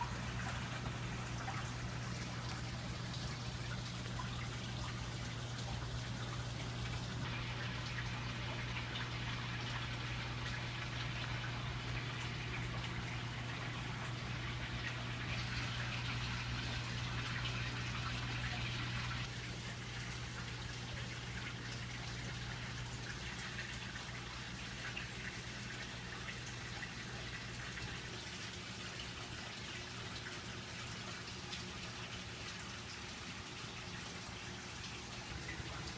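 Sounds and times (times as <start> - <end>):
low pump hum: 0.0 - 35.9
water splashing and trickling: 0.0 - 35.9.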